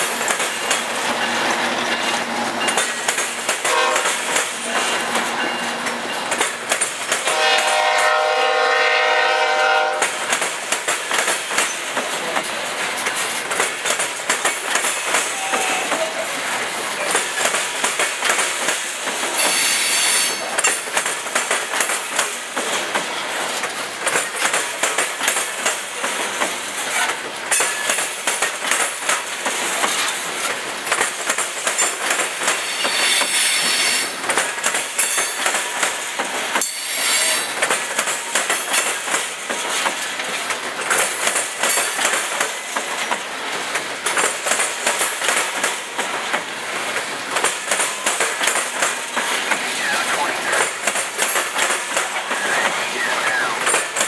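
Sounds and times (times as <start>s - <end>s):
train wheels clacking over rail joints: 0.0s - 52.8s, 53.6s - 54.0s.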